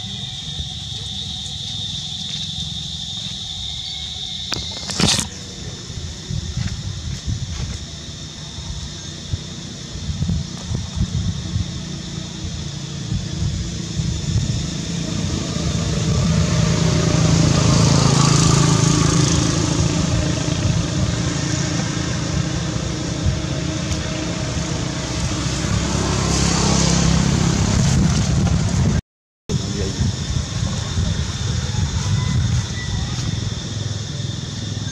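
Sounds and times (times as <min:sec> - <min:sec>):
passing vehicle engines humming: 0:00.0 - 0:34.9.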